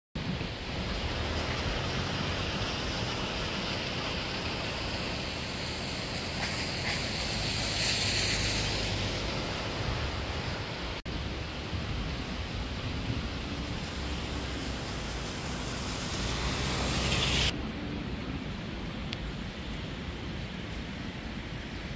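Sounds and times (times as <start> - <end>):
flooded stream rushing: 0.2 - 21.9.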